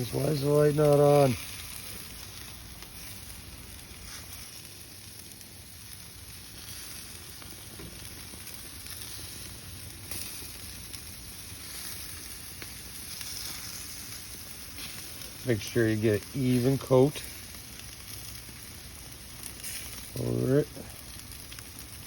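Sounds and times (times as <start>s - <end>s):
chicken wings sizzling: 0.0s - 22.0s.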